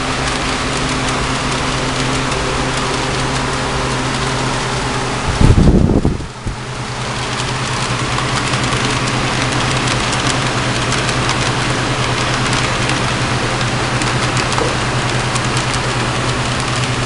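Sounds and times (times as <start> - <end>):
model train motor hum: 0.0 - 17.0
wheels clicking on rails: 0.0 - 17.0.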